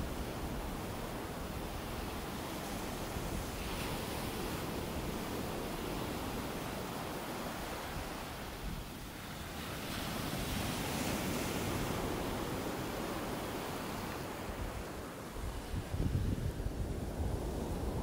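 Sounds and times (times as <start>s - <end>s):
sea around a boat: 0.0s - 18.0s
wind on microphone: 0.0s - 18.0s.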